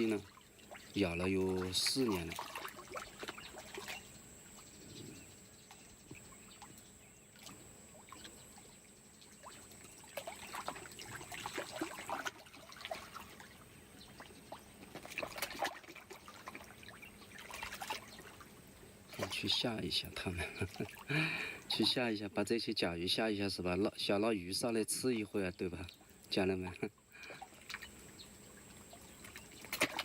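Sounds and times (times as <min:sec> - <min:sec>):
small splashes: 0:00.0 - 0:04.7, 0:05.7 - 0:22.0, 0:25.8 - 0:30.0
water trickling into pond: 0:00.0 - 0:30.0.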